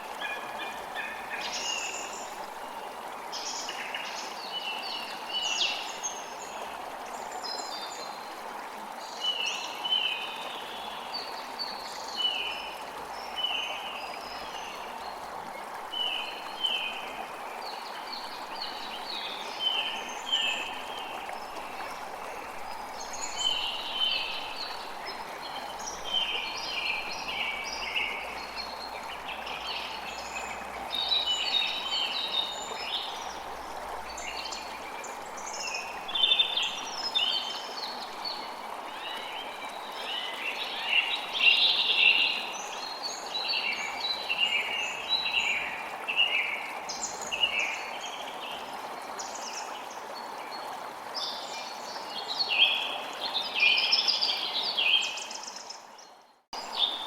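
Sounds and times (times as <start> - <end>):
running water rushing: 0.0 - 56.0, 56.6 - 57.0.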